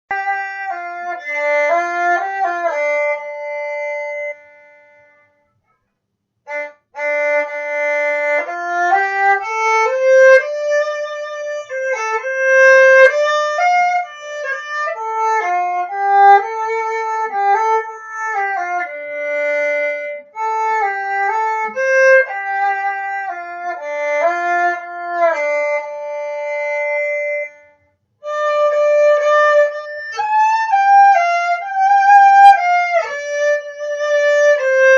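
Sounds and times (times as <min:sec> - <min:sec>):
bowed violin melody: 0:00.1 - 0:05.4, 0:06.5 - 0:34.9.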